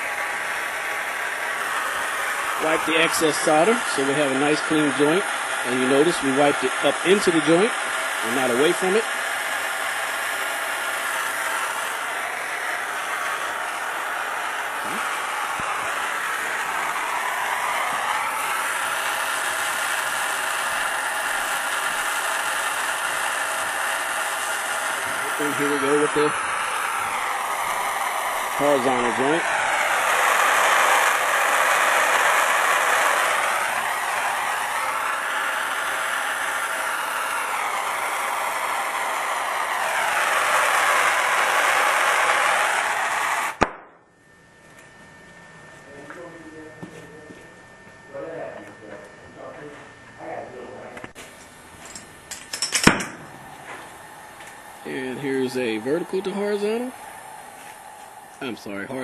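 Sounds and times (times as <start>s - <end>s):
gas torch flame hissing: 0.0s - 43.8s, 51.1s - 59.0s.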